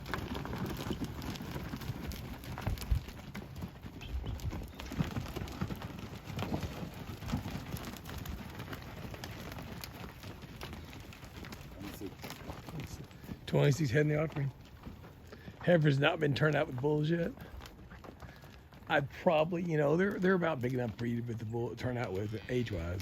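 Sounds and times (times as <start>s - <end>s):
cattle hoof thuds and shuffling: 0.0s - 23.0s.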